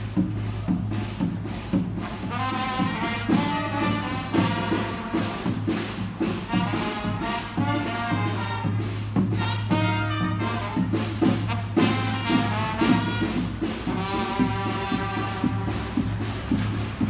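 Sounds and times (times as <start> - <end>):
drums keeping a steady beat: 0.0 - 17.0
trombone and trumpet playing: 2.0 - 16.0.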